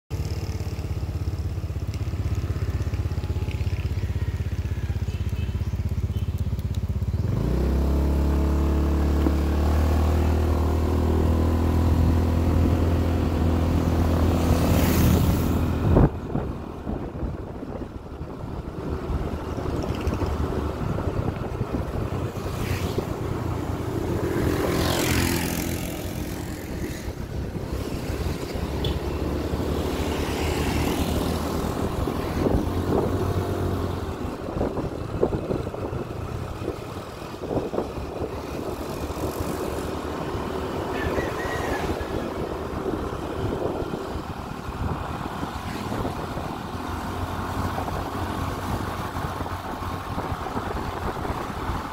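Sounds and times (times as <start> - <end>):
motorcycle engine running: 0.1 - 51.9.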